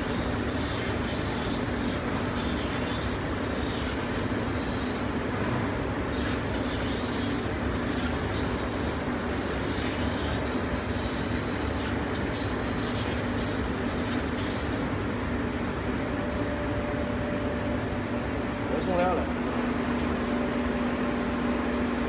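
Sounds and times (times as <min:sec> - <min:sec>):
laser cutting machine humming: 0:00.0 - 0:22.0.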